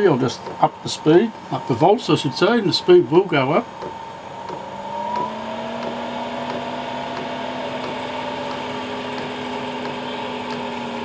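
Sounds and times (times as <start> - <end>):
fuel pump ticking: 0.0 - 11.0
heater fan humming: 0.0 - 11.0.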